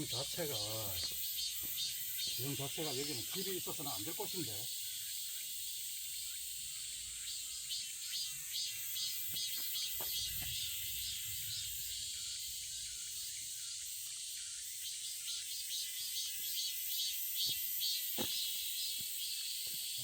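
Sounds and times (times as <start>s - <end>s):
insects chirping drone: 0.0s - 20.0s
pulsing insect call: 0.0s - 20.0s.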